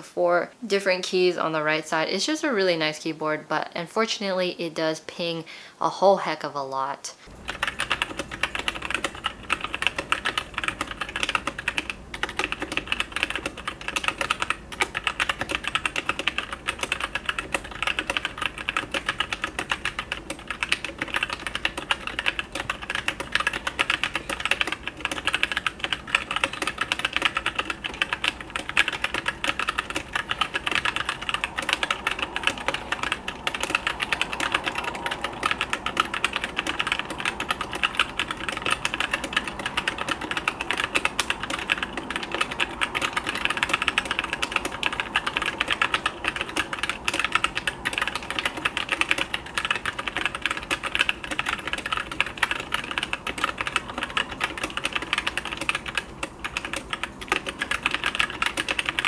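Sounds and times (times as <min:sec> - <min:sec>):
typing on mechanical keyboard: 0:07.3 - 0:59.0.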